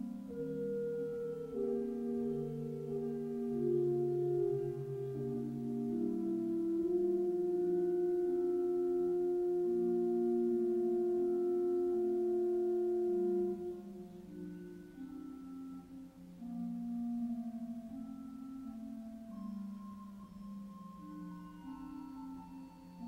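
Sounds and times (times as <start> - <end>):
organ playing slow chorale: 0.0 - 22.6.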